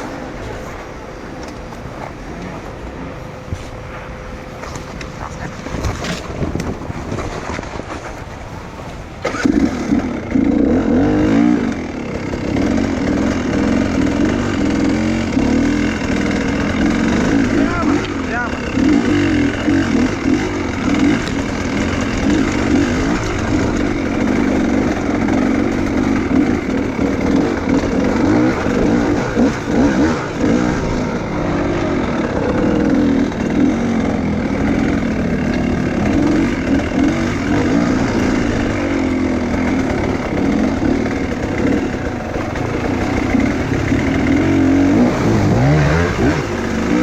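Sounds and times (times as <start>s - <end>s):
motorcycle engine revving: 4.4s - 47.0s.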